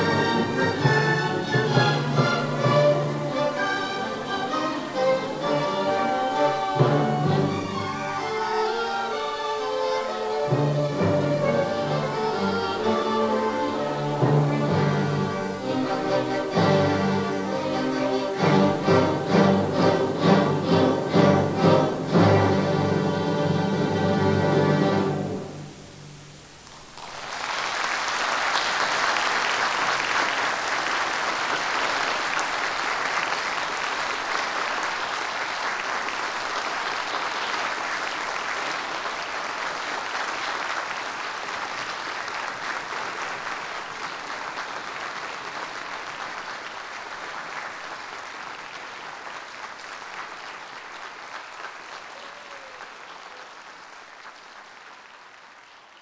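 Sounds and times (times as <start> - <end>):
audience applauding: 0.0 - 22.4, 26.6 - 56.0.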